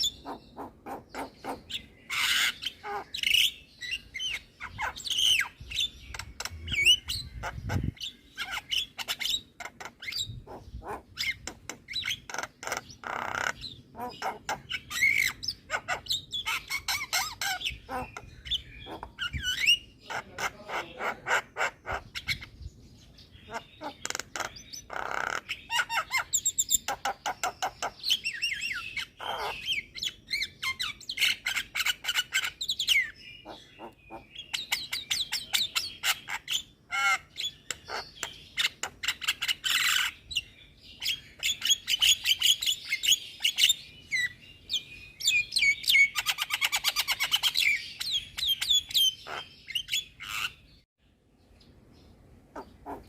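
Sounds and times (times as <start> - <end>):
bird singing varied song: 0.0 - 53.0.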